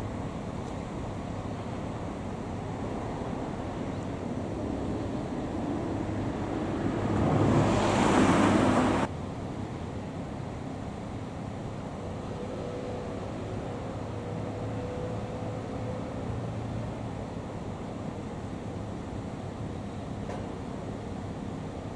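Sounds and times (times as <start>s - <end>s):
traffic road noise: 0.0s - 21.9s.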